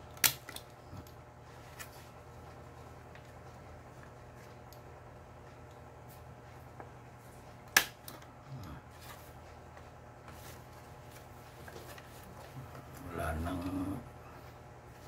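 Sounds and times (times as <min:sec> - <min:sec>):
soft handling noises: 0:00.8 - 0:15.0.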